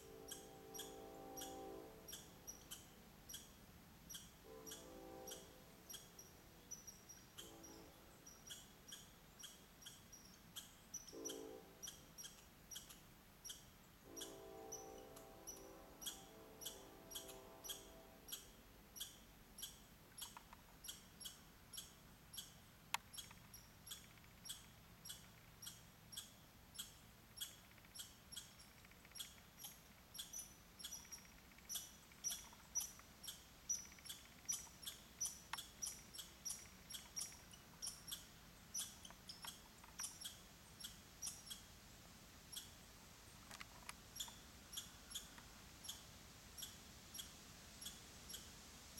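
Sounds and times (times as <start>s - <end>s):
small animal high chirps: 0.3s - 14.9s, 15.5s - 41.7s, 42.5s - 42.8s, 44.2s - 46.0s, 46.6s - 48.5s.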